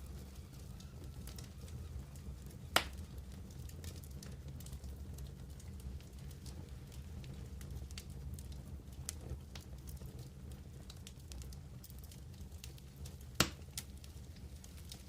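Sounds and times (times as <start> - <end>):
campfire crackling: 0.0 - 15.0
fire pops: 0.0 - 15.0.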